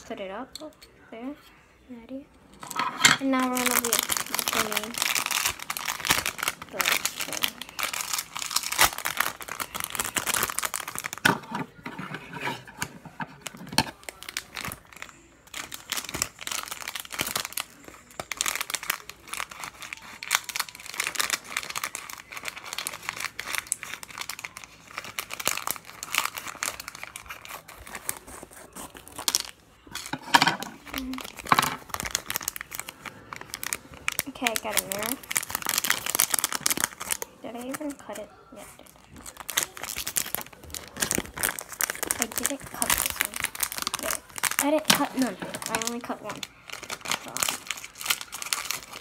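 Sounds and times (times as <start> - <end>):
plastic packaging crumpled and torn: 2.7 - 49.0.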